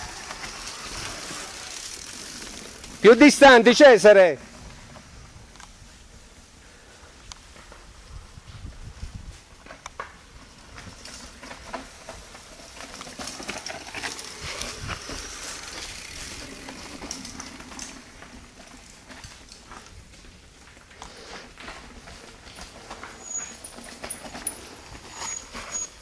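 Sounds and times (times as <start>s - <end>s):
bikes rattling clicks and knocks: 0.0s - 6.0s, 6.9s - 26.0s
bike tyres crunching over stones: 0.0s - 26.0s.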